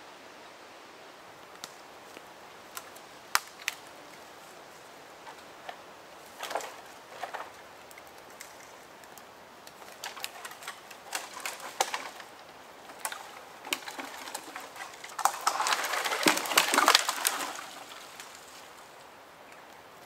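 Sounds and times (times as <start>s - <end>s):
branches crackling and snapping: 1.4s - 20.0s
twigs snapping: 1.5s - 4.3s, 5.3s - 18.9s
dry wood cracking: 1.5s - 4.5s, 5.2s - 19.8s.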